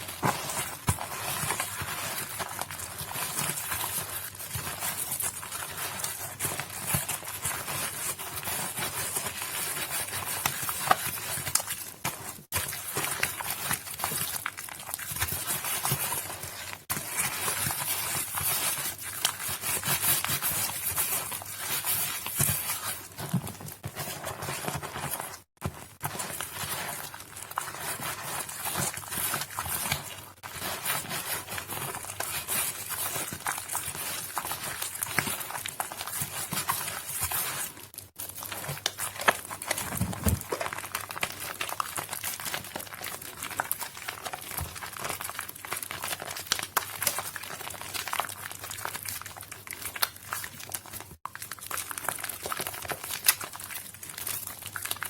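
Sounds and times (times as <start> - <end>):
wet soap being squished: 0.0 - 55.0.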